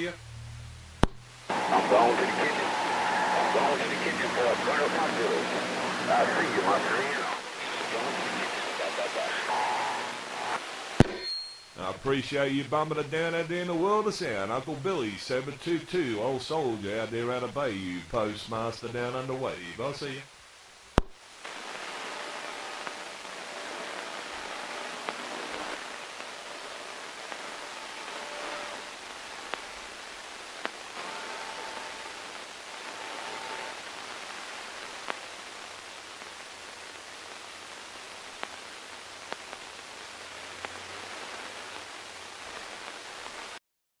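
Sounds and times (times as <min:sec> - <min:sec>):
radio static hiss: 0:00.0 - 0:11.2, 0:11.8 - 0:43.6.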